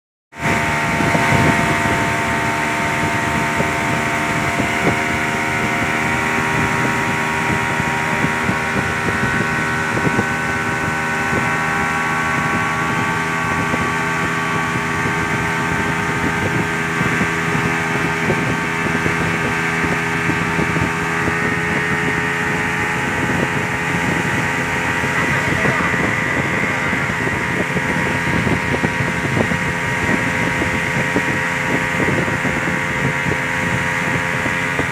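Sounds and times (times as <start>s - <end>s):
speedboat engine running: 0.3s - 34.9s
rushing water and wind: 0.4s - 34.9s.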